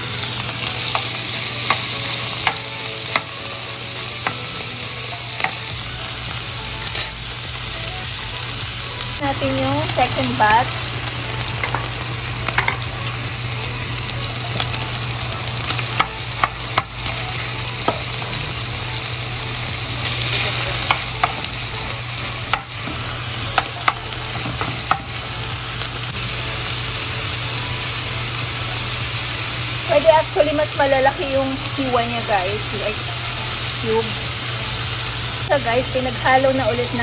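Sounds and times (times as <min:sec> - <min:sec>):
meat sizzling in a pan: 0:00.0 - 0:37.0.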